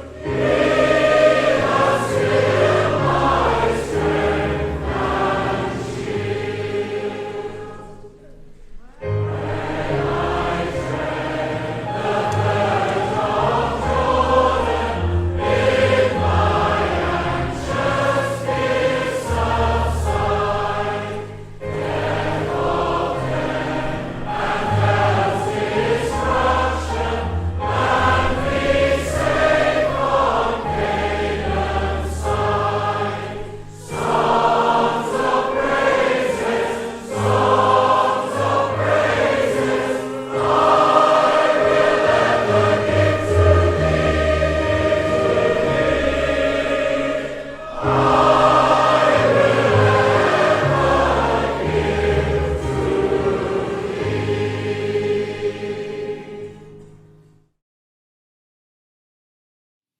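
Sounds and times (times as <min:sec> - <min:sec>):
choir singing a hymn: 0:00.0 - 0:57.2.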